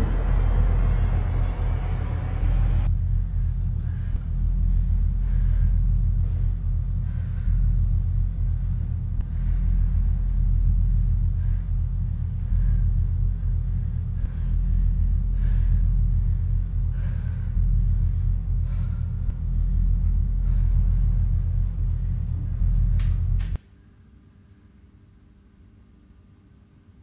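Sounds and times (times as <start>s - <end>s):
woman breathing heavily: 0.0s - 23.4s
low rumbling drone: 0.0s - 23.6s.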